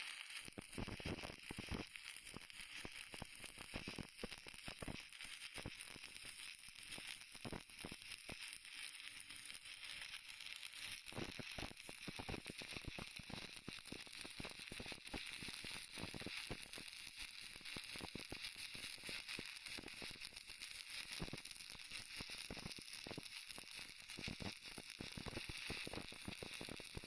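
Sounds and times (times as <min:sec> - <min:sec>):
welding arc crackling and sizzling: 0:00.0 - 0:27.0.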